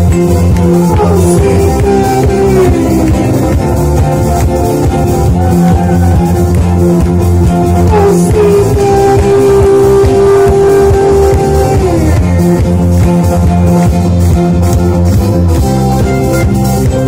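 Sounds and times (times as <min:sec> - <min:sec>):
acoustic guitars strummed: 0:00.0 - 0:17.0
electric bass guitar: 0:00.0 - 0:17.0
rock band playing: 0:00.0 - 0:17.0.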